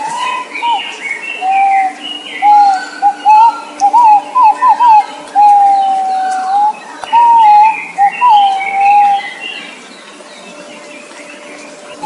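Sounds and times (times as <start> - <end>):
pigeon whistled song: 0.0 - 9.7
other birds chirping: 0.0 - 12.0.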